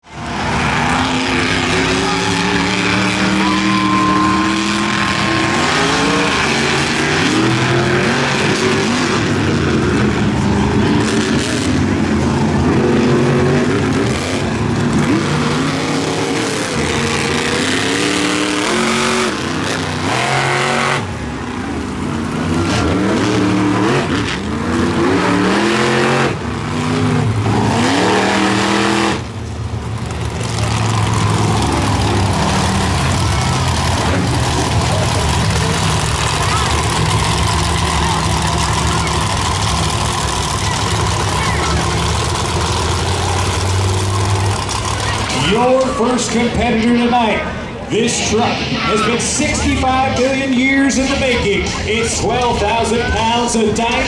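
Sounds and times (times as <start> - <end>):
monster truck engines revving: 0.0 - 54.0.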